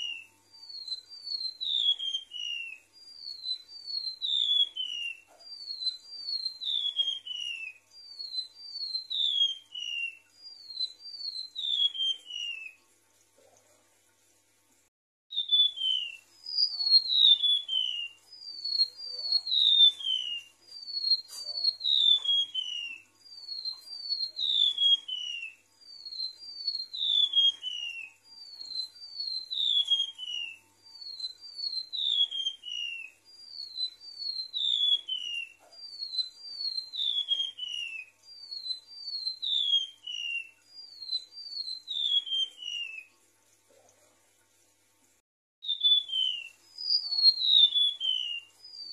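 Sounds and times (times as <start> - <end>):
bird singing high whistles: 0.0 - 12.8, 15.3 - 43.1, 45.6 - 48.9.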